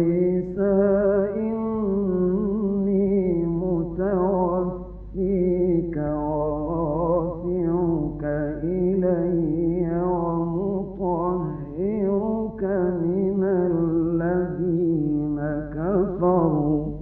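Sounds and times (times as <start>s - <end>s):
man reciting melodically: 0.0s - 17.0s
steady low hum: 0.0s - 17.0s.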